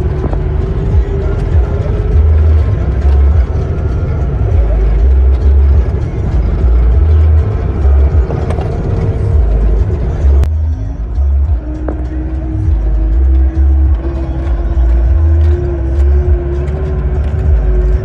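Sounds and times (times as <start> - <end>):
music with heavy bass: 0.0 - 18.0
vehicle running along road: 0.0 - 18.0.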